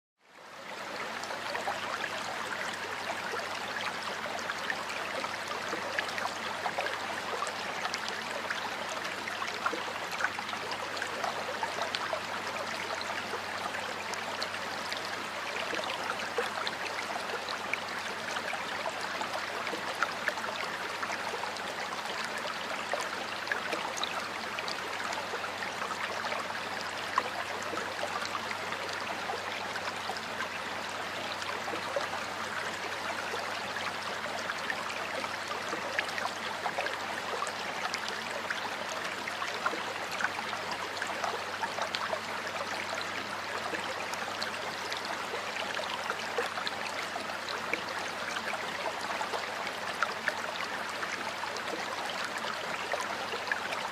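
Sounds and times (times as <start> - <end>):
stream water flowing: 0.2 - 53.9.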